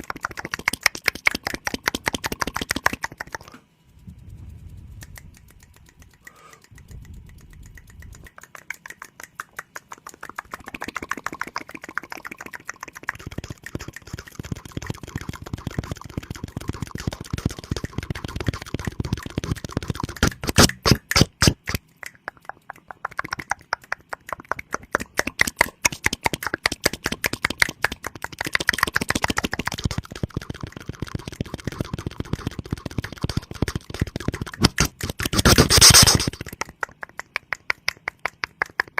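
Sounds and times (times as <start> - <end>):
wet mouth clicks and smacks: 0.0 - 3.6, 4.7 - 38.9.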